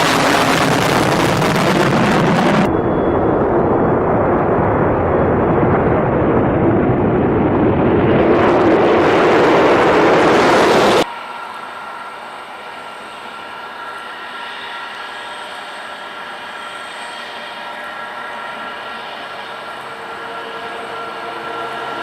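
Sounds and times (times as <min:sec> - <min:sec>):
jet engine roar with deep rumble: 0:00.0 - 0:22.0.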